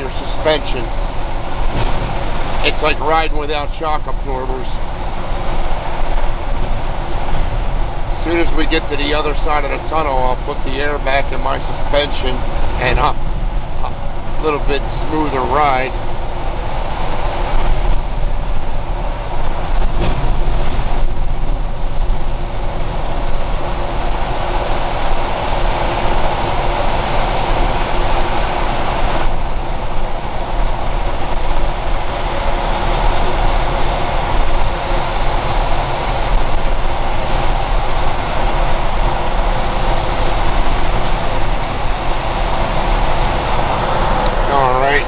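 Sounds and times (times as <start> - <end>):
truck engine and road noise: 0.0 - 45.0.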